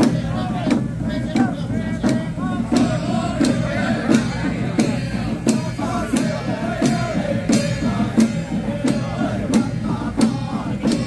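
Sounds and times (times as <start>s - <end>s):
melody over percussive beat: 2.0s - 11.0s.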